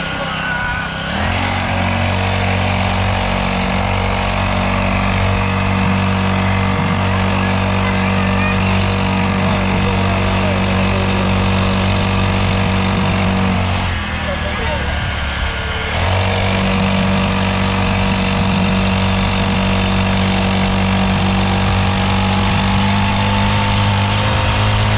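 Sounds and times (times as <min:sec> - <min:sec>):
broad rushing noise: 0:00.0 - 0:24.9
dirt bike engine running: 0:00.0 - 0:24.9.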